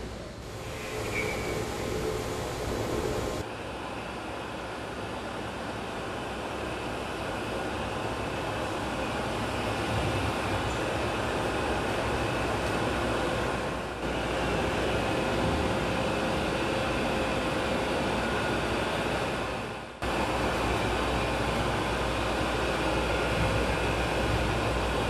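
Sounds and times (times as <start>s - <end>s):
machinery running inside ship hull: 0.0s - 25.0s.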